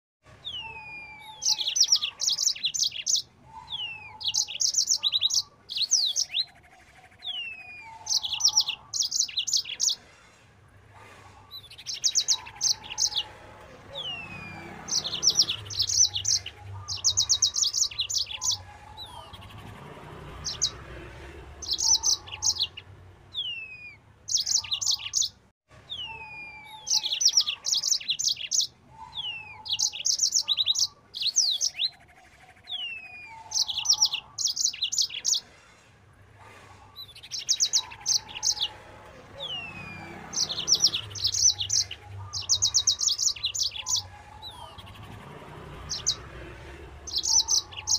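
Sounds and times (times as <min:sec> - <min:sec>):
canary singing: 0:00.4 - 0:10.1, 0:11.3 - 0:35.6, 0:36.8 - 0:47.9.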